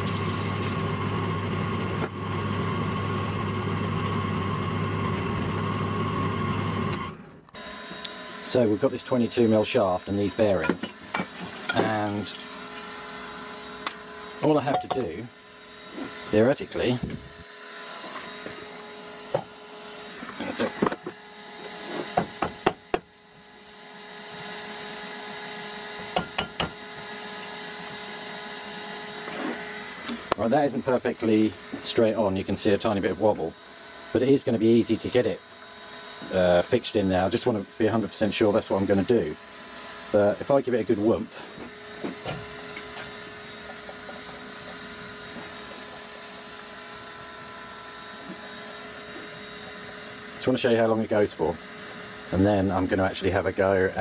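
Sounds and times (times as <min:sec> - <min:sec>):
rotor whirring with faint whine: 0:00.0 - 0:54.0.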